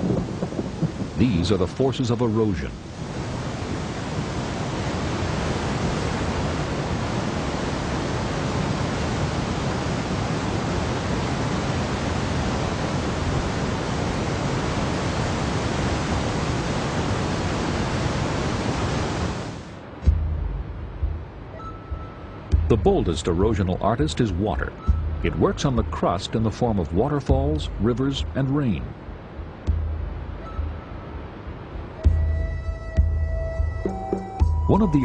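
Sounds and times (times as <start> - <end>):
waterfall roaring: 0.0 - 20.1, 21.2 - 32.4.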